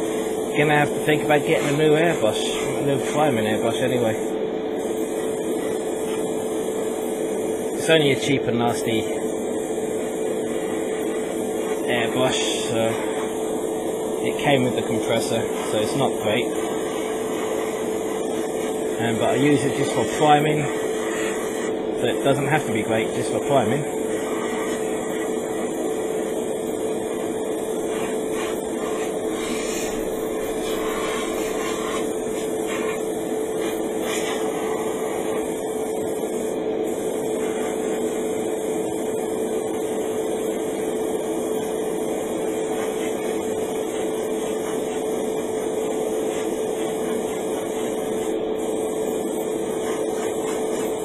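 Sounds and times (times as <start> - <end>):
air hiss from airbrush: 0.0 - 51.0
compressor mechanical hum: 0.0 - 51.0.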